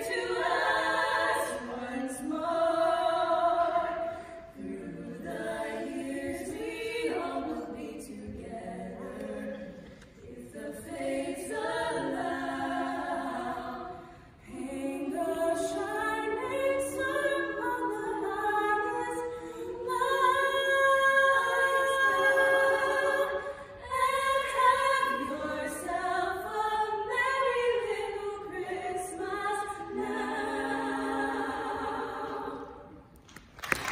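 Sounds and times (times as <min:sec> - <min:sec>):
women singing a cappella: 0:00.0 - 0:33.2.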